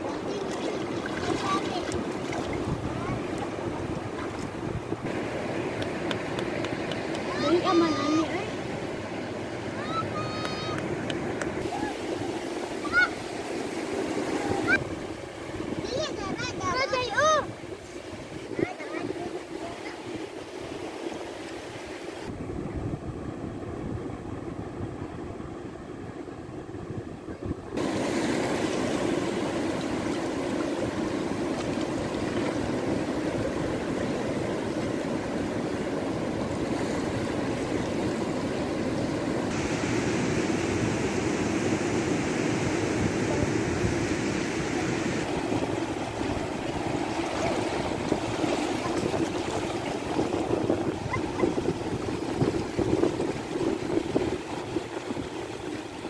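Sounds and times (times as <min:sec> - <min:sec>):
surf washing over rocky shore: 0:00.0 - 0:25.8, 0:27.5 - 0:56.0.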